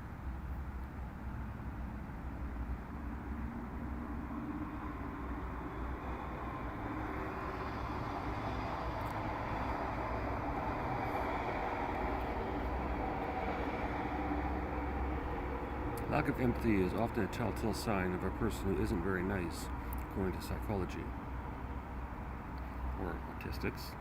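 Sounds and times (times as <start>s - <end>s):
low rumble of vehicles: 0.0s - 24.0s.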